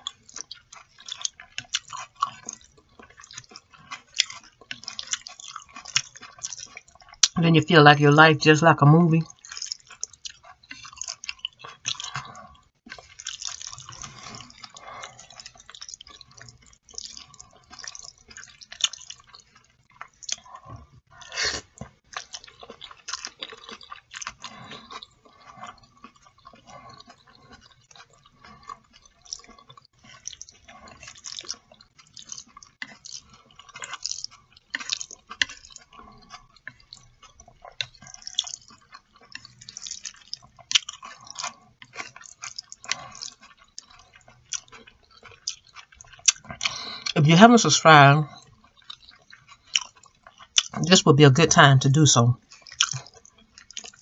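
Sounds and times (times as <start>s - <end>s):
person chewing noodles: 0.0s - 54.0s.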